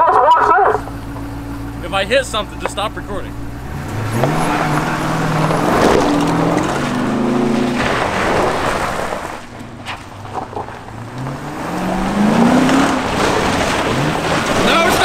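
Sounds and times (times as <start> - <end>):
car engine revving: 0.0 - 15.0
tyres on loose gravel: 0.0 - 15.0.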